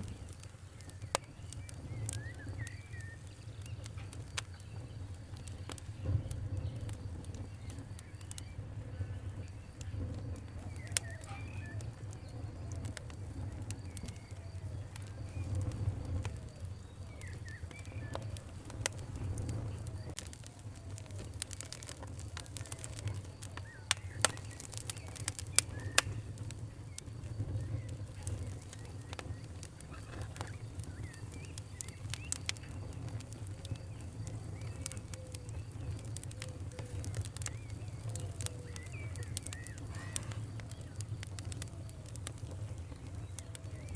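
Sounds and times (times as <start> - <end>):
faint chirping whistles: 0.0 - 43.9
wood fire crackling: 0.0 - 43.9.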